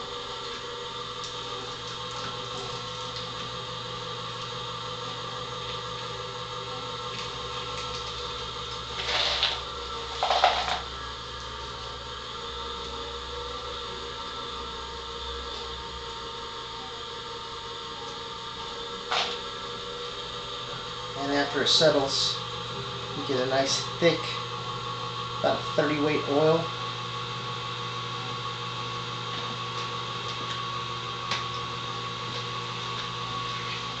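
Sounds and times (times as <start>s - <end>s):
oil press motor and gear hum: 0.0s - 34.0s.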